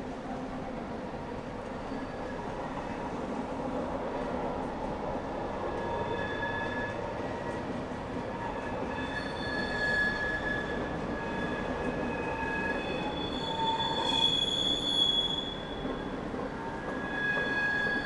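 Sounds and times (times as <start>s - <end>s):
rumble of train wagons: 0.0s - 18.0s
train wheels squealing on rails: 0.5s - 18.0s.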